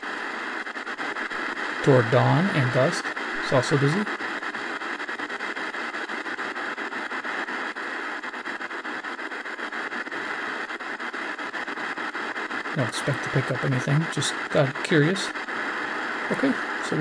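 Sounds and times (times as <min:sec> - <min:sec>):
radio static hiss: 0:00.0 - 0:17.0
rapid crackling clicks: 0:00.0 - 0:17.0.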